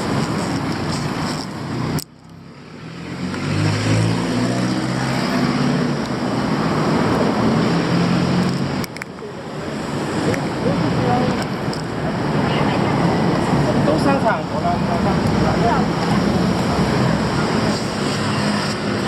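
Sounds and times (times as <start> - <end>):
street traffic noise: 0.0 - 19.0
vehicle engine humming nearby: 0.0 - 19.0.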